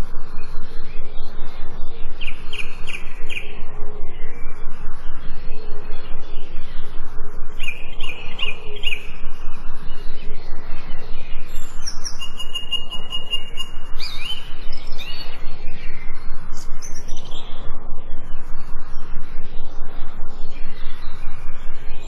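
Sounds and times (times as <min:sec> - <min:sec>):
constant background hiss: 0:00.0 - 0:22.0
songbirds singing and chirping: 0:00.0 - 0:22.0.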